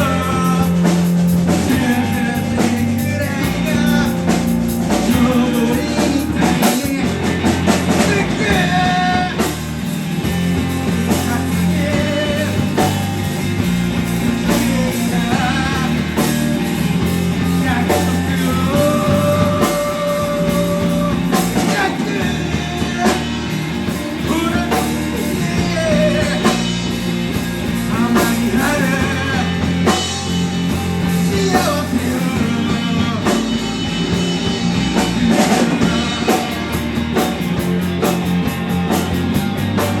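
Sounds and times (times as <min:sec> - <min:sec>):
person singing: 0:00.0 - 0:09.8, 0:11.0 - 0:13.6, 0:14.3 - 0:16.7, 0:17.4 - 0:26.9, 0:27.7 - 0:37.0
rock band playing live: 0:00.0 - 0:40.0.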